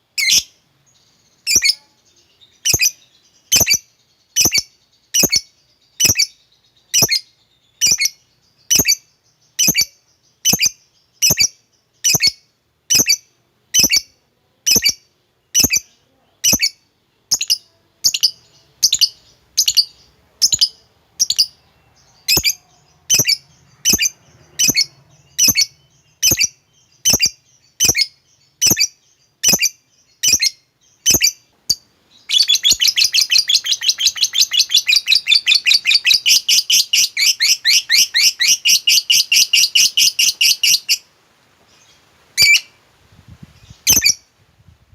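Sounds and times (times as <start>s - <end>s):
lovebird chirping: 0.0s - 44.4s.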